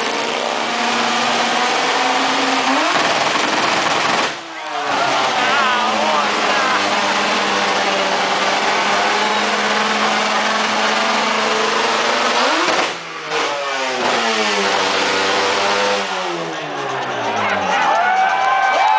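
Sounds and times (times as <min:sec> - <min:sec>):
car engine at high revs: 0:00.0 - 0:17.6.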